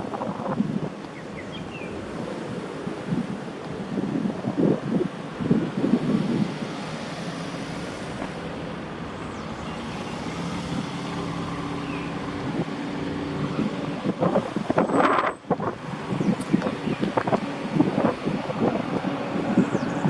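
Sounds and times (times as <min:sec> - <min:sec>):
wind buffeting microphone: 0:00.0 - 0:08.3, 0:10.3 - 0:20.0.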